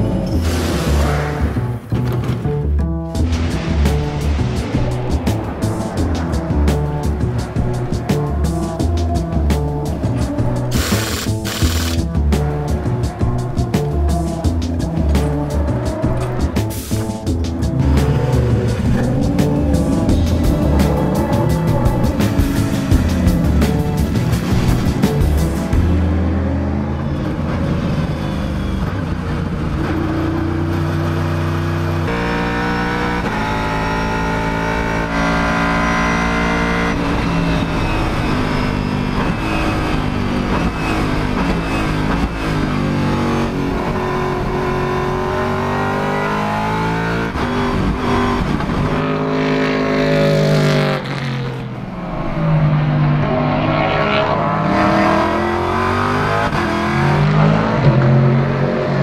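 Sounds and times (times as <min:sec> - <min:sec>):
race car engine accelerating: 0:03.1 - 0:59.0.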